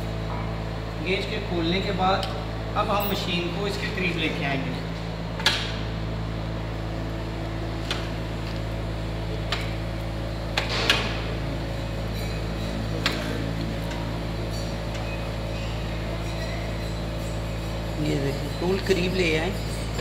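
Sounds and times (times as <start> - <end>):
machinery electrical hum: 0.0 - 20.0.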